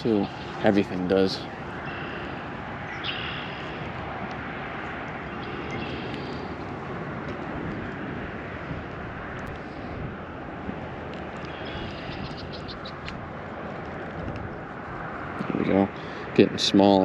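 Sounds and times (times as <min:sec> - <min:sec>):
outdoor rumble and hiss: 0:00.0 - 0:17.0.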